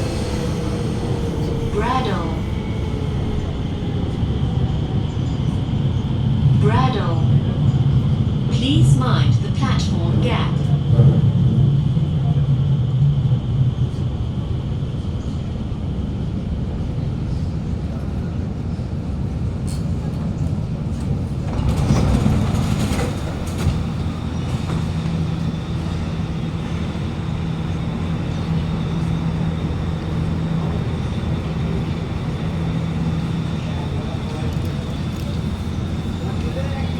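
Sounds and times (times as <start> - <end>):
idle metro train hum: 0.0 - 36.9.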